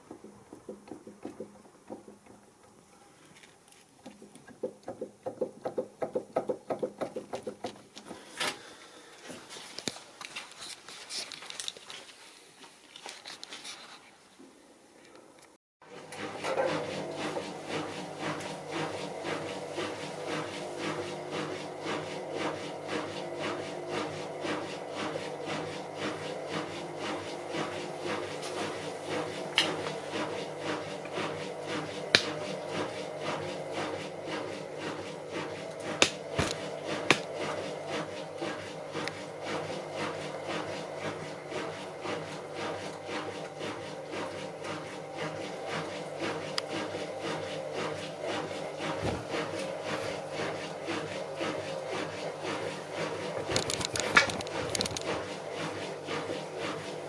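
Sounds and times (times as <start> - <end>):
washing machine drum turning: 0.0 - 2.7, 4.1 - 8.0, 15.8 - 56.9.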